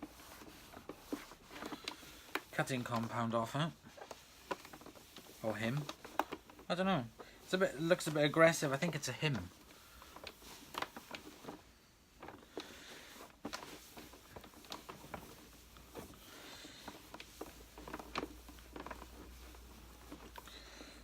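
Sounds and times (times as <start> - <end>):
cloth rubbing on plastic casing: 0.0 - 21.0.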